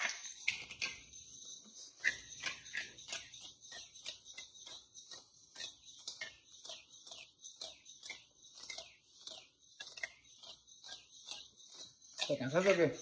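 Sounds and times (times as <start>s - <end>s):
spice mill grinding: 0.0s - 13.0s.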